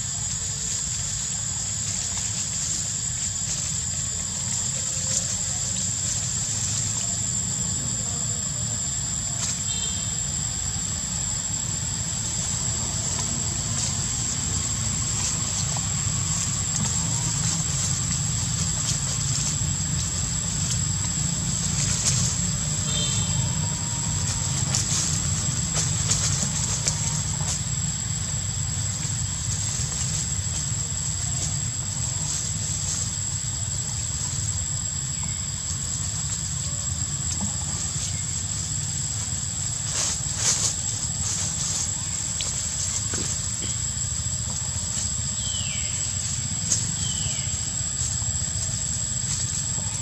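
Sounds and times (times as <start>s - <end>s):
constant low rumble: 0.0s - 50.0s.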